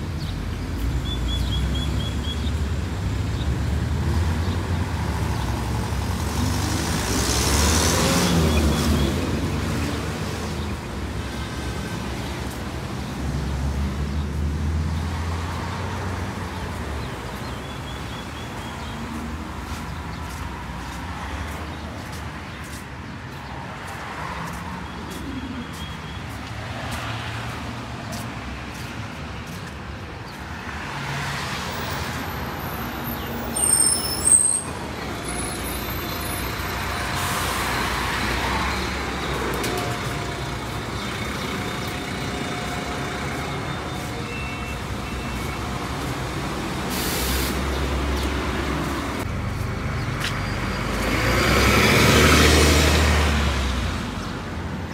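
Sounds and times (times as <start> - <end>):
passing road traffic: 0.0 - 54.9.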